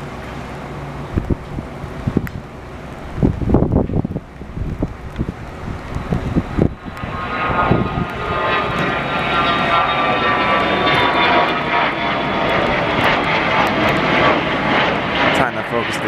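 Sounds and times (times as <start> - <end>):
jet engines roaring with high whine: 0.0 - 16.0
wind buffeting microphone: 0.0 - 16.0.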